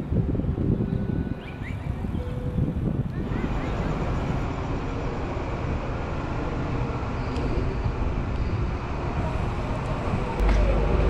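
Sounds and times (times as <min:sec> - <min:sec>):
train idling rumble: 0:00.0 - 0:11.0.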